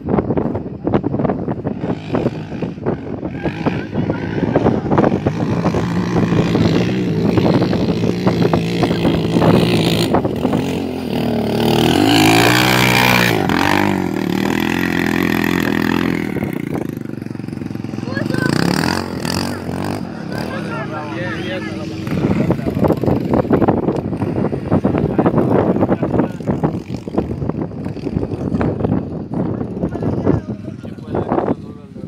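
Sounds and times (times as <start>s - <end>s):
quad bike engine revving: 1.0s - 32.0s.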